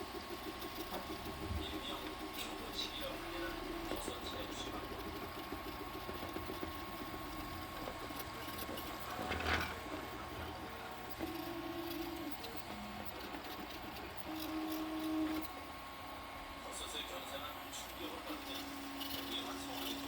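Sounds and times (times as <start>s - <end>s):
stepper motors whirring: 0.0s - 20.0s.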